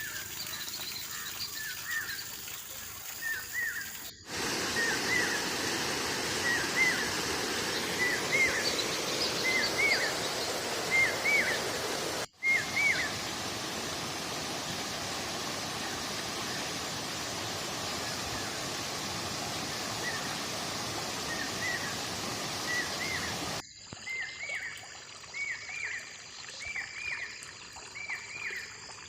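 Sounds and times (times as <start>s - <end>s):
flowing water rushing: 0.0s - 28.9s.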